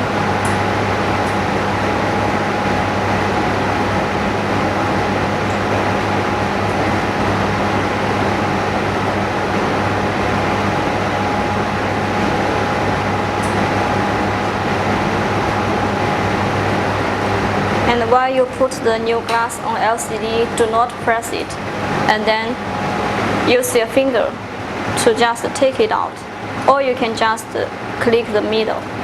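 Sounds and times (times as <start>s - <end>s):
machine hum and hiss: 0.0s - 29.0s
thin steady whine: 0.0s - 29.0s.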